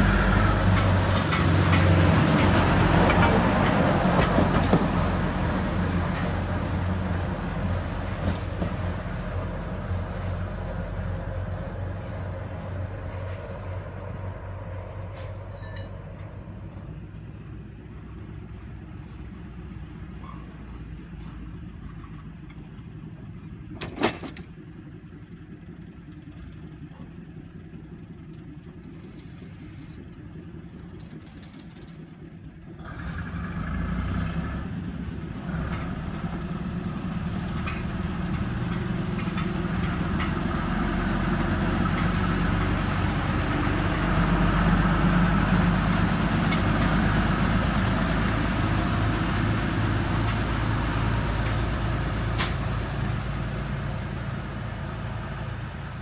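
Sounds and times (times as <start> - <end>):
locomotive diesel engine: 0.0 - 56.0.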